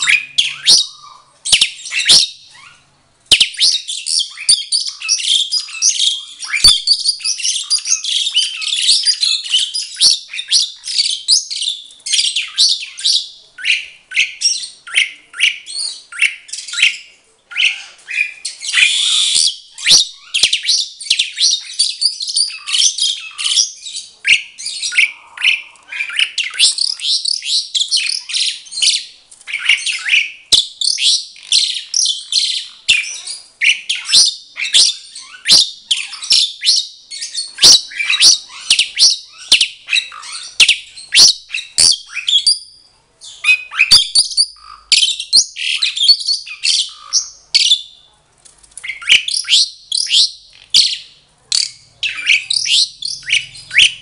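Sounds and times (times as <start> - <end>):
starling chirps and whistles: 0.0 - 48.0, 48.8 - 54.0.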